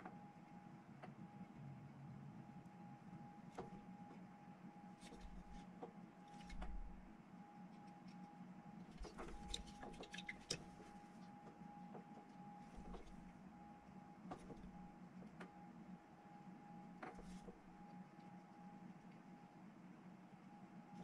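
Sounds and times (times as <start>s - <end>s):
faint hum and high whine: 0.0s - 21.0s.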